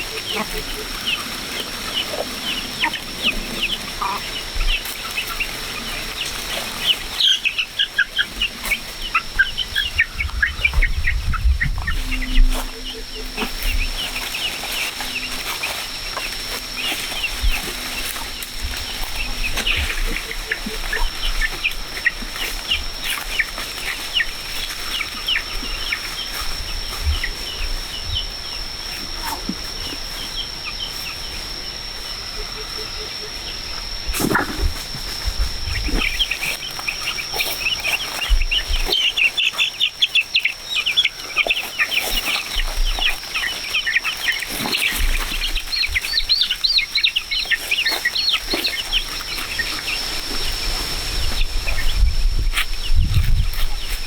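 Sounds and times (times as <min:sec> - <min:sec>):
small animals peeping and squeaking: 0:00.0 - 0:54.0.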